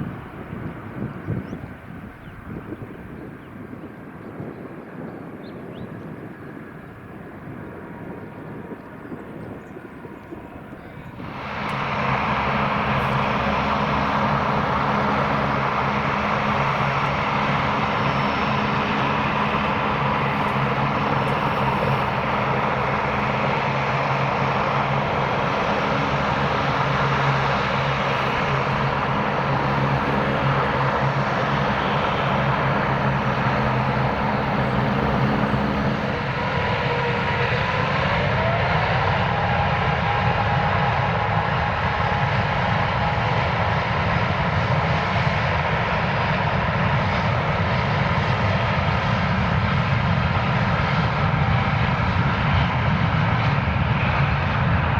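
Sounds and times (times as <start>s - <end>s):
jet engine roar: 0.0s - 54.9s
wind noise: 0.0s - 54.9s.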